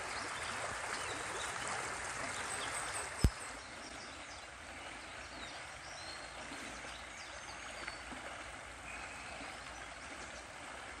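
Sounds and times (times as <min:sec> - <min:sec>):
creek water rushing over stones: 0:00.0 - 0:11.0.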